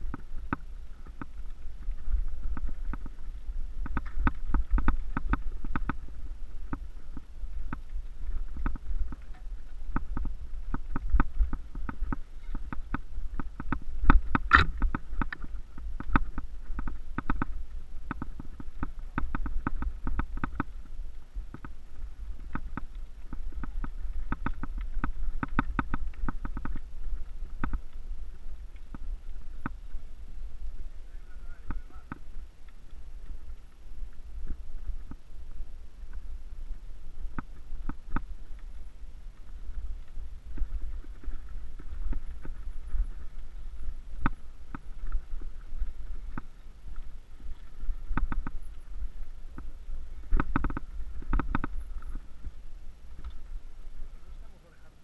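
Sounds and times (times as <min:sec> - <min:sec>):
bike clattering over rough trail: 0:00.0 - 0:55.0.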